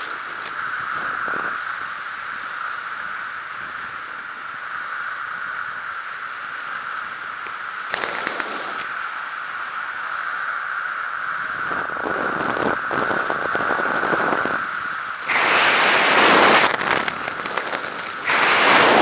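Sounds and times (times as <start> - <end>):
crackling: 0.0 - 5.9, 6.6 - 9.1, 11.2 - 19.0
wind rushing over microphone: 0.0 - 19.0.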